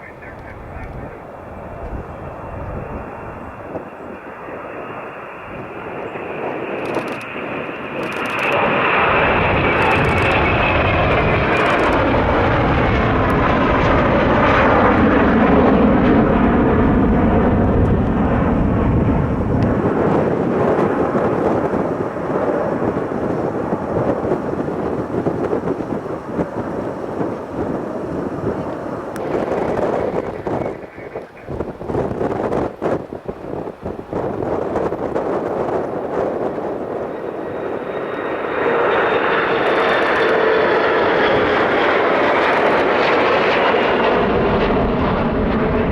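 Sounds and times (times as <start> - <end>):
jet airliner passing: 0.0 - 45.9.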